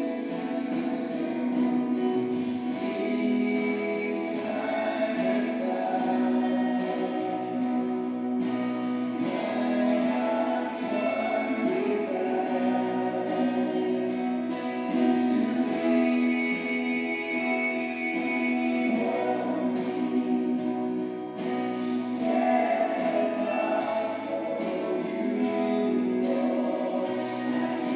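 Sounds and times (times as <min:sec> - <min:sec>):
guitar accompaniment: 0:00.0 - 0:27.9
voices singing: 0:00.0 - 0:27.9.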